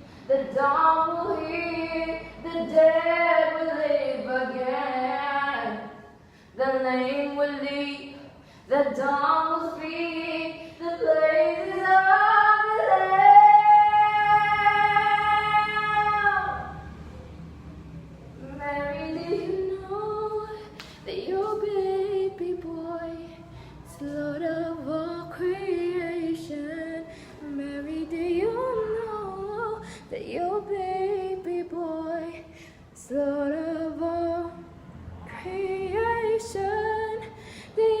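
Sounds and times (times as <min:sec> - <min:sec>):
woman singing: 0:00.3 - 0:16.8, 0:18.4 - 0:34.6, 0:35.3 - 0:38.0.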